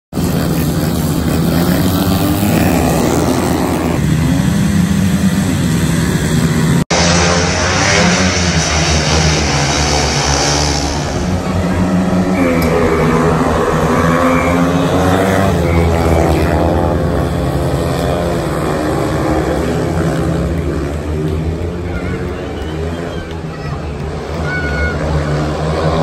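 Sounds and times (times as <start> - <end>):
racing motorcycles revving: 0.1 - 26.0.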